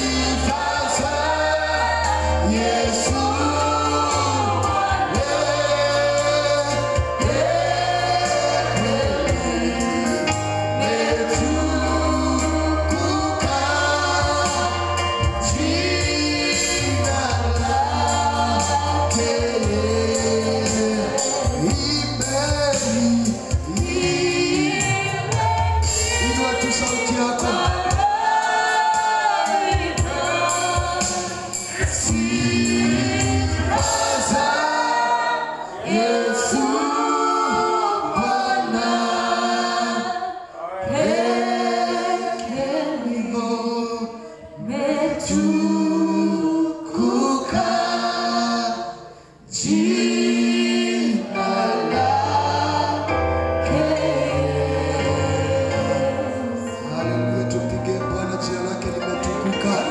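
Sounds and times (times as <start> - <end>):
group singing gospel song: 0.0 - 59.9.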